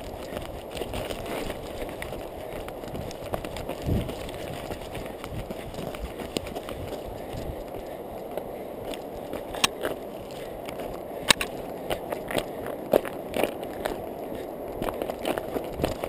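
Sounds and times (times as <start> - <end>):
running footsteps: 0.0 - 16.0.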